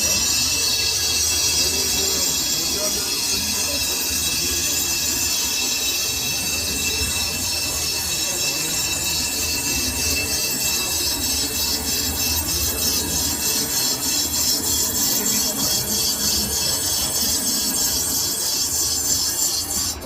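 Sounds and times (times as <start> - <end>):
lathe tool cutting metal: 0.0 - 20.0.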